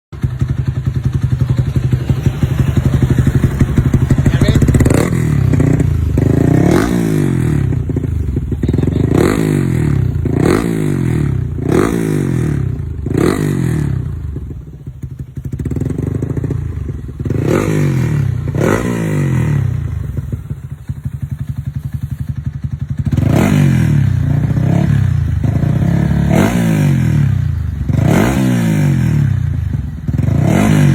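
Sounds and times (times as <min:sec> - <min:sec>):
motorcycle engine revving: 0:00.1 - 0:30.9
motorcycle engine idling: 0:00.2 - 0:30.9.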